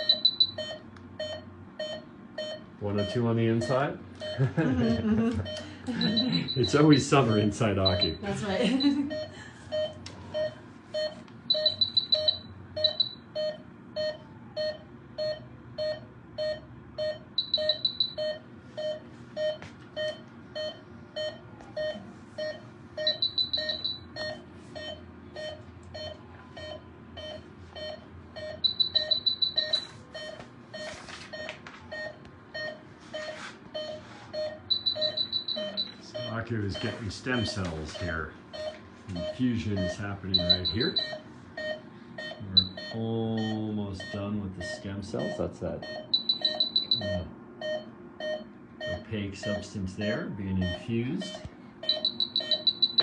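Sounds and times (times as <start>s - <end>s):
rapid high-pitched beeps: 0.0s - 19.6s, 20.6s - 30.9s, 32.0s - 53.0s
patient monitor beeping: 0.0s - 53.0s.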